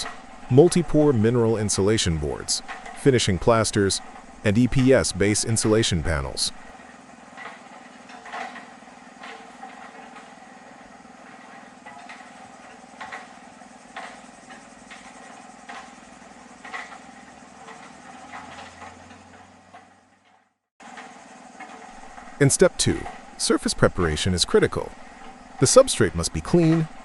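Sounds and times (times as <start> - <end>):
knocks and clacks of work: 0.0 - 27.0
machine humming: 0.0 - 27.0.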